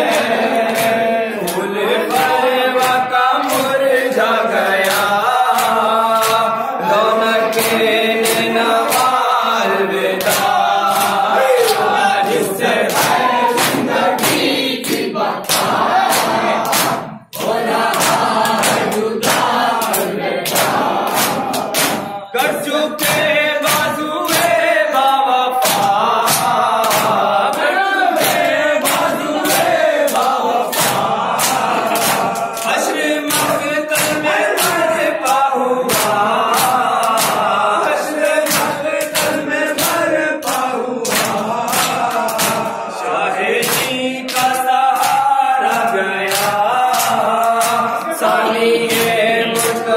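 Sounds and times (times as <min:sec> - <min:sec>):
men singing through microphones: 0:00.0 - 0:49.9.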